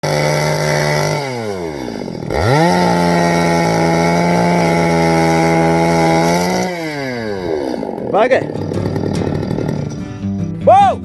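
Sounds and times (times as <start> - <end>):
chainsaw engine revving: 0.0 - 10.7.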